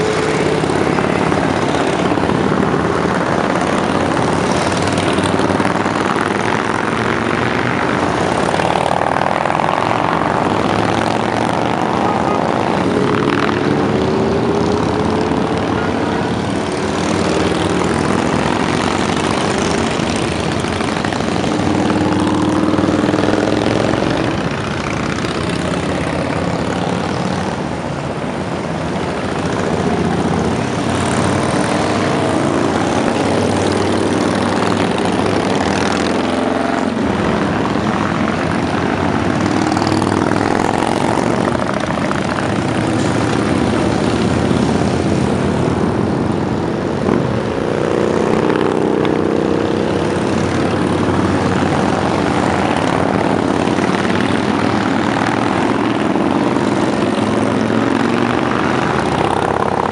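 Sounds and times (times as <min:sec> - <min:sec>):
motorcycles riding past: 0:00.0 - 0:59.9.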